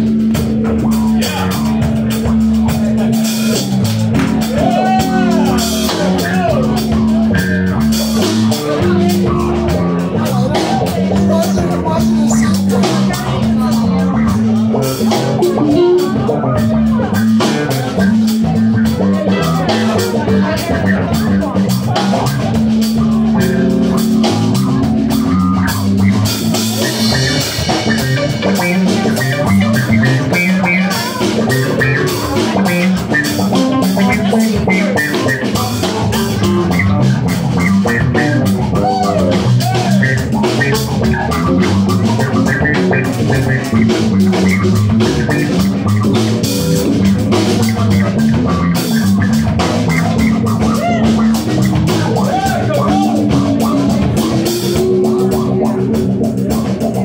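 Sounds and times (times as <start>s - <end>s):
bass guitar: 0.0s - 57.0s
drum beat: 0.0s - 57.0s
electric guitar: 0.0s - 57.0s.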